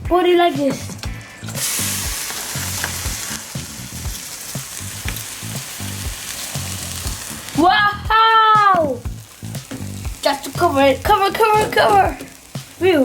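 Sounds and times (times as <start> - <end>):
rice sizzling in hot water: 1.4 - 13.0.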